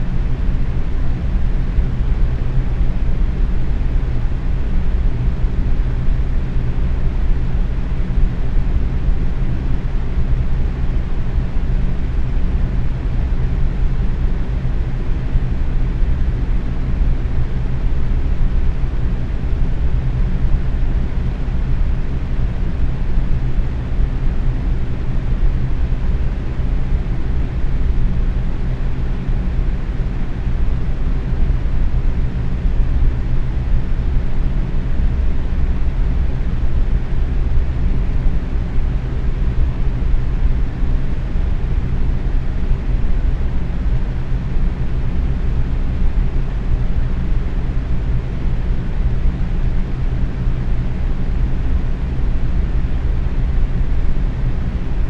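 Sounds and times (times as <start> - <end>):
box fan running: 0.0 - 55.0.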